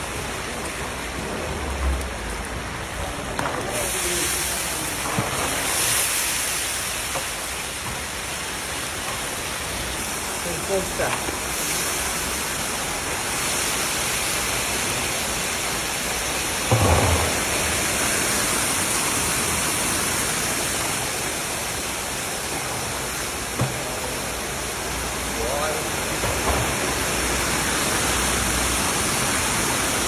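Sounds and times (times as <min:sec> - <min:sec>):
meat sizzling in oil: 0:03.4 - 0:30.0.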